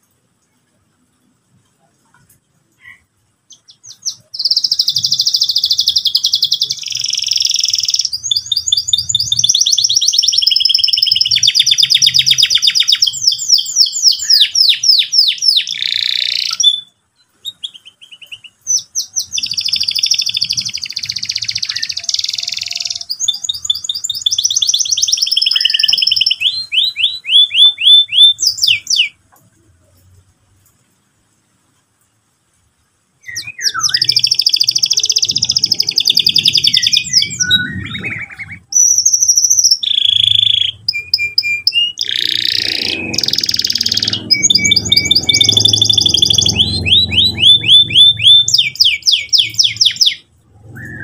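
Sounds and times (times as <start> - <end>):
canary singing trills: 2.8 - 29.2, 33.2 - 51.0.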